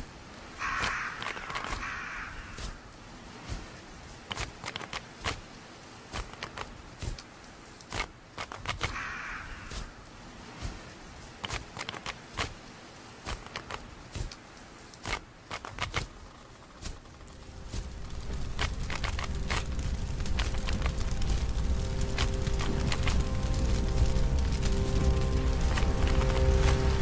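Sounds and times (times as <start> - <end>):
grass stalks rustling: 0.0 - 27.0
footsteps through tall grass: 0.6 - 16.1, 16.7 - 27.0.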